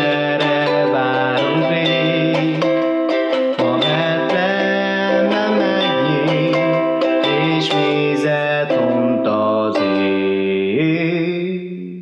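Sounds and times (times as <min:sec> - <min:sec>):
ukulele strumming: 0:00.0 - 0:12.0.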